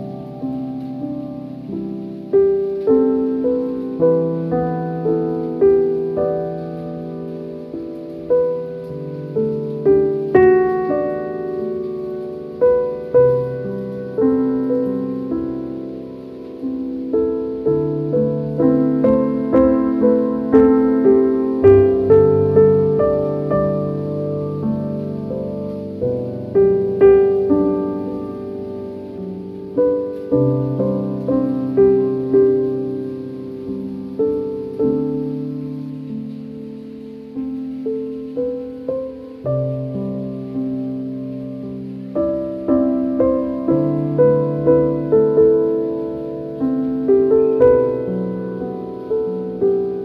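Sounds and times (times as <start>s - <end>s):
slow piano music: 0.0s - 50.0s.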